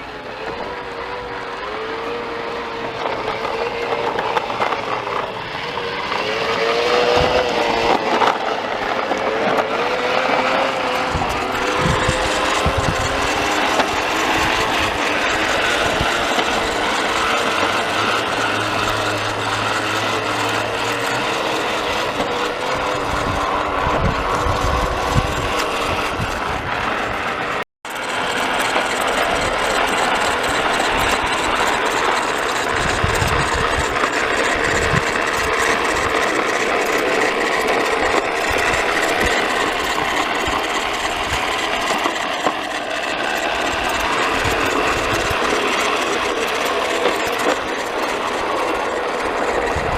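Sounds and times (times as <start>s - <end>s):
toy lawn mower droning and rattling: 0.0s - 49.9s.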